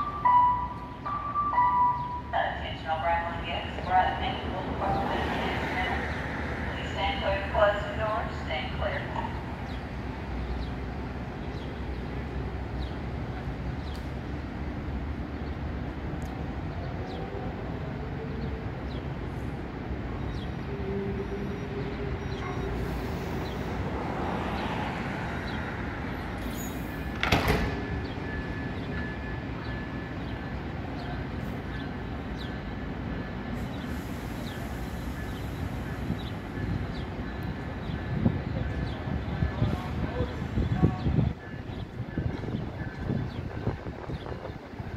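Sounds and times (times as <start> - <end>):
train engine rumble: 0.0 - 44.9.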